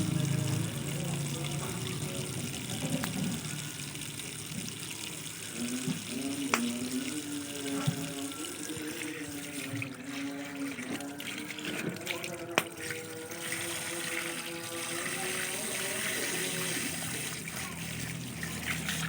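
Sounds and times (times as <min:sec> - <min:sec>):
liquid running and splashing: 0:00.0 - 0:19.0.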